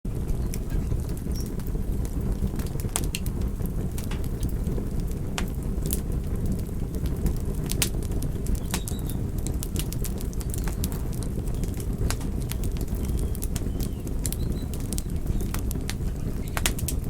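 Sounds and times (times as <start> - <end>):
fire flames rumbling: 0.0 - 17.0
wood crackling and popping: 0.0 - 17.0.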